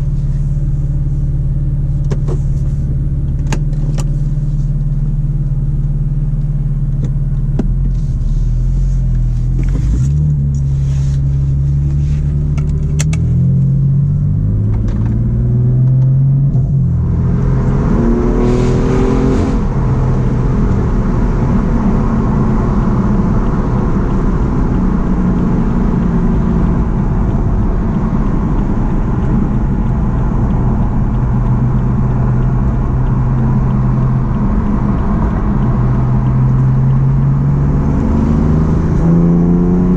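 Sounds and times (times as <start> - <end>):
car engine and exhaust revving: 0.0 - 39.9
tyre and road noise: 0.0 - 39.9.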